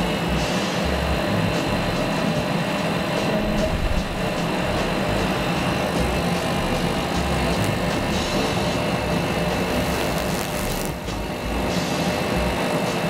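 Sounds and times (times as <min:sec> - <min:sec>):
laser cutter fan hum: 0:00.0 - 0:13.0.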